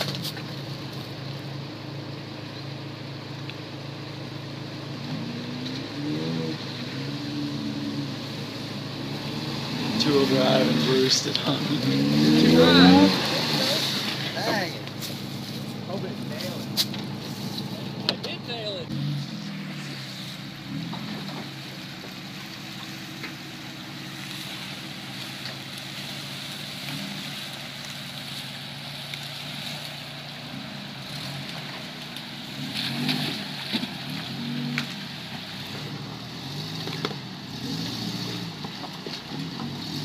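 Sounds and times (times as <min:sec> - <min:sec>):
engine running at low revs: 0:00.0 - 0:40.0.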